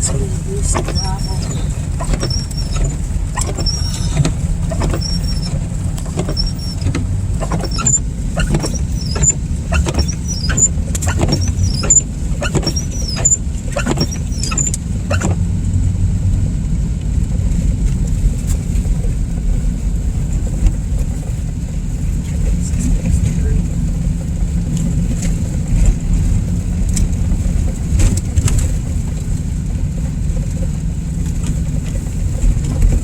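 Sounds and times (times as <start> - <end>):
windshield wipers knocking and squeaking: 0.0 - 15.5, 17.8 - 33.0
car engine and road rumble: 0.0 - 33.0.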